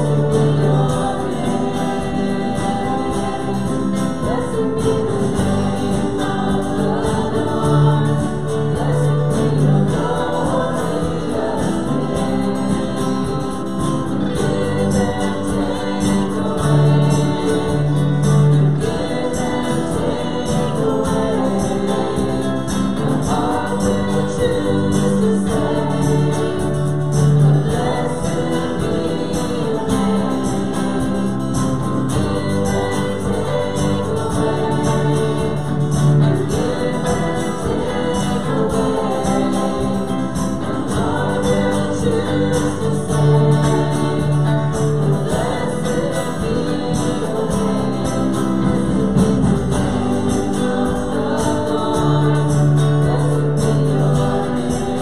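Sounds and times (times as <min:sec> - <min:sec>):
congregation singing: 0:00.0 - 0:55.0
held bass notes: 0:00.0 - 0:55.0
instrumental accompaniment: 0:00.0 - 0:55.0.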